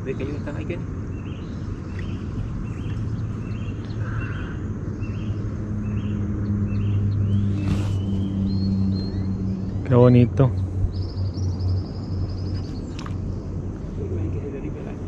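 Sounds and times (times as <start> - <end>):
bird chirping: 0.1 - 14.3.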